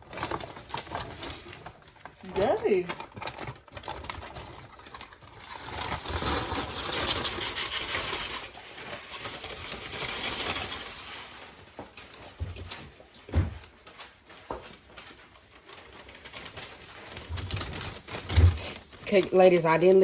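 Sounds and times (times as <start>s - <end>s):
popcorn popping in paper bag: 0.0s - 13.8s, 16.1s - 20.0s.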